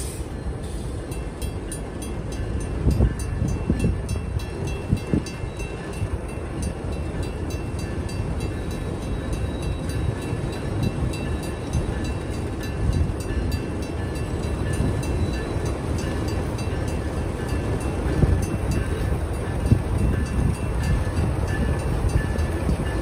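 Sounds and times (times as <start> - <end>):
locomotives rumbling on a steel bridge: 0.0 - 23.0.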